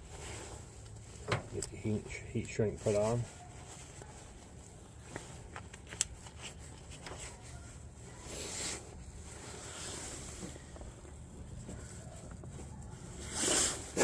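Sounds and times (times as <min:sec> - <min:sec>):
soft rustling: 0:00.0 - 0:14.0.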